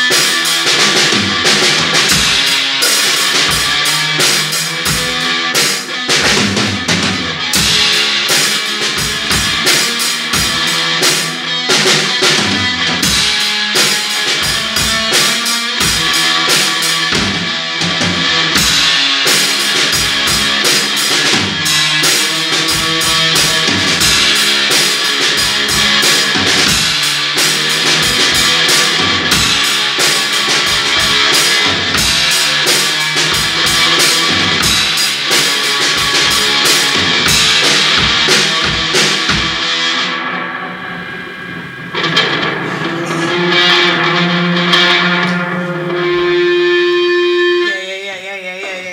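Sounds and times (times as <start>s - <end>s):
drum kit pounding: 0.0s - 47.7s
noisy electric guitar: 0.0s - 48.9s.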